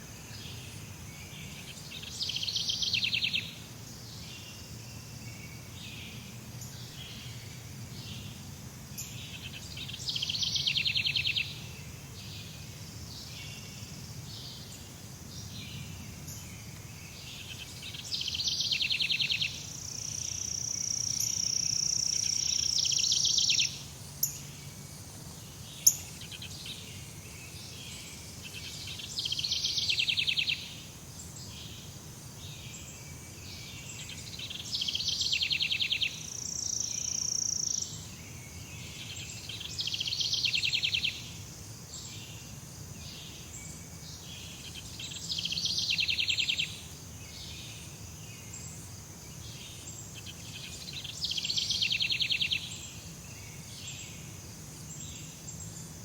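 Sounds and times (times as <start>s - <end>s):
birds: 0.0s - 56.0s
insects chirring: 0.0s - 56.0s.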